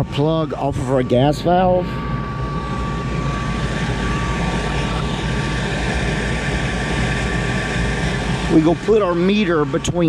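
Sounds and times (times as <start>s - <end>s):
high-pitched whine: 0.0s - 10.0s
mechanical hum: 0.0s - 10.0s.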